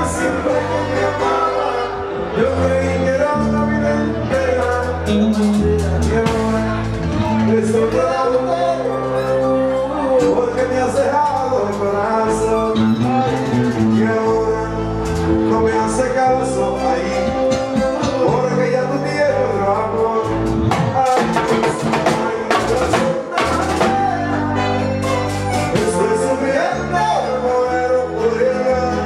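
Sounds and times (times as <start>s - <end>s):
live latin band music: 0.0s - 29.0s
man singing: 0.0s - 29.0s.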